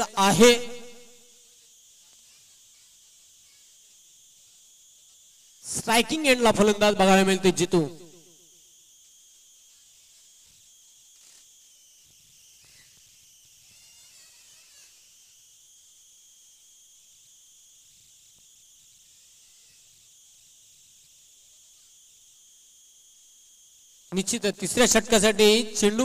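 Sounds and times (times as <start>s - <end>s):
faint high-pitched insects: 0.0s - 26.0s.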